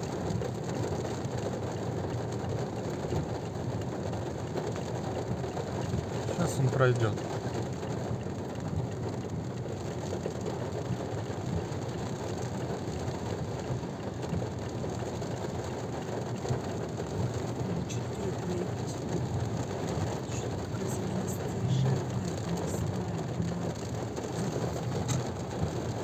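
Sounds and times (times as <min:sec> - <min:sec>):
rain pattering on car roof: 0:00.0 - 0:26.0
road noise rumble: 0:00.0 - 0:26.0.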